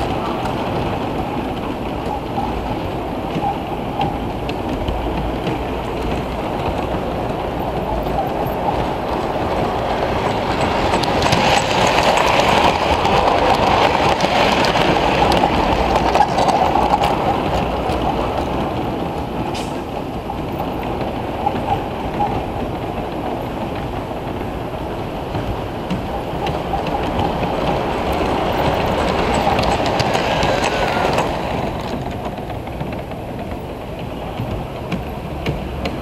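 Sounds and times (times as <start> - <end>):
model train wheels rumbling on rails: 0.0 - 36.0.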